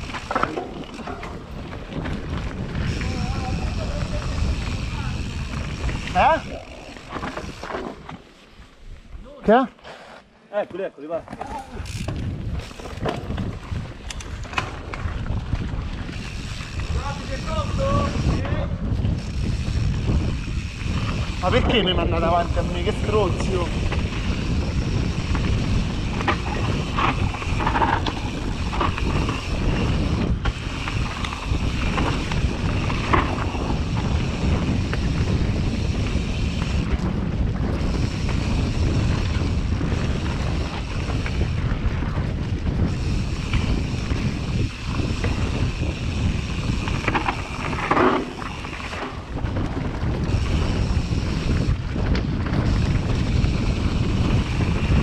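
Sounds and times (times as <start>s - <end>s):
wind buffeting microphone: 0.0s - 9.6s, 11.2s - 55.0s
bike tyres on loose ground: 0.0s - 55.0s.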